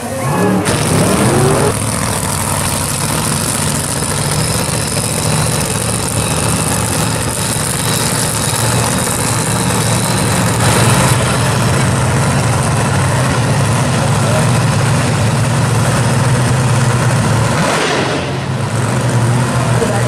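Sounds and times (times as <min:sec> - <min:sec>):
race car engines idling: 0:00.0 - 0:20.0.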